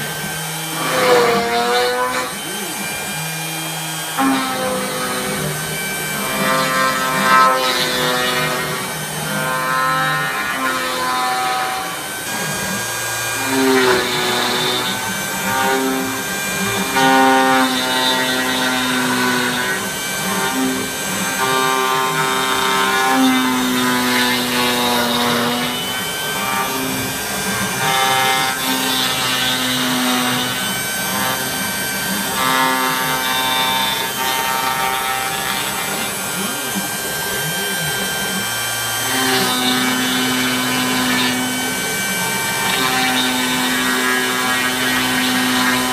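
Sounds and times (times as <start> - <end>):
router spindle cutting wood: 0.0 - 45.9.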